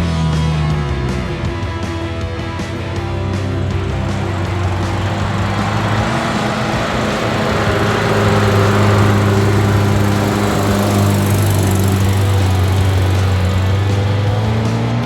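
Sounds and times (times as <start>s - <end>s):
off-road vehicle engine running: 1.0s - 15.0s.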